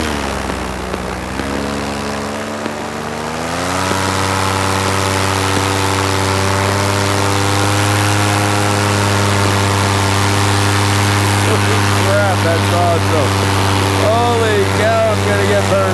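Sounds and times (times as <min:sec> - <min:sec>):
paramotor engine throttling up: 0:00.0 - 0:15.9.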